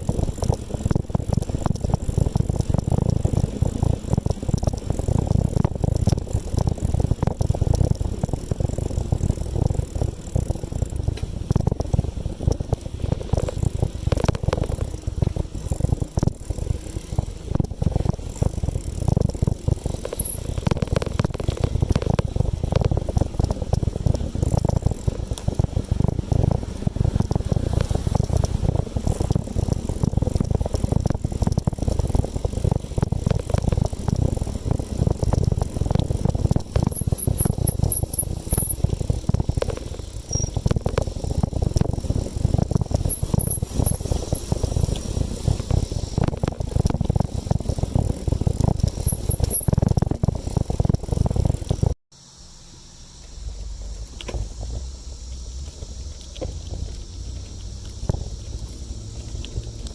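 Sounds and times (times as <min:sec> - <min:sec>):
bicycle rattles and clicks: 0:00.0 - 0:52.0, 0:53.2 - 0:59.9
wind and road noise: 0:00.0 - 0:59.9.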